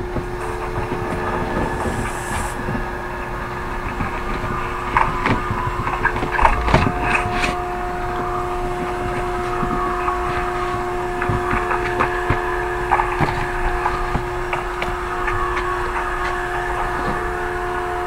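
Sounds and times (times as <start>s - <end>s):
higher tone: 0.0s - 18.0s
mechanical hum: 0.0s - 18.0s.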